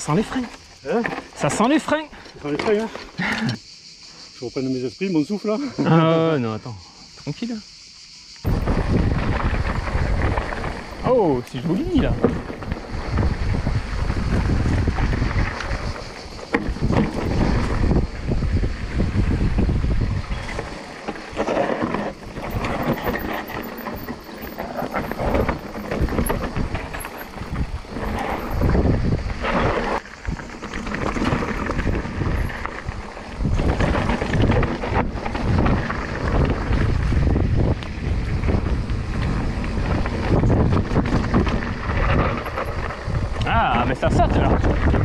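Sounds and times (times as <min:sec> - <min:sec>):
bike tyres rumbling over trail: 0:00.0 - 0:03.5, 0:08.4 - 0:45.0
wind buffeting microphone: 0:08.4 - 0:45.0.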